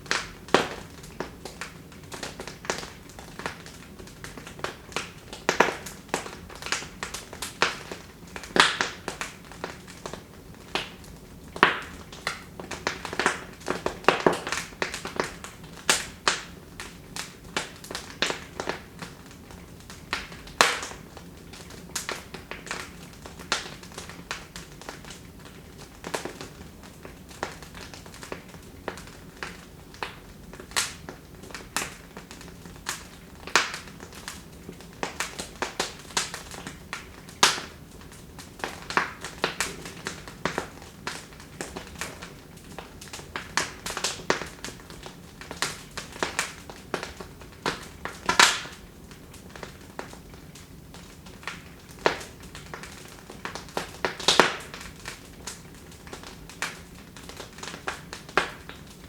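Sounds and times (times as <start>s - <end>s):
sharp pops and snaps of fire: 0.0s - 59.0s
wood fire crackling: 0.0s - 59.0s.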